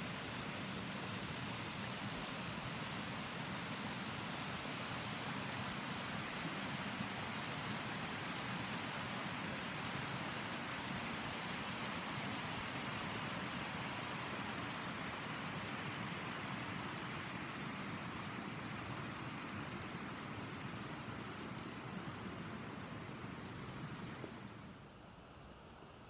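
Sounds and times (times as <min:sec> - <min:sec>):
meltwater rushing: 0:00.0 - 0:24.8.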